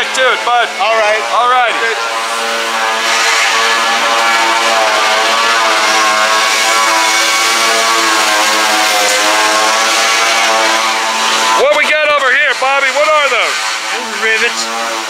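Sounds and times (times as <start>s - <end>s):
power tool buzzing: 0.0s - 15.0s.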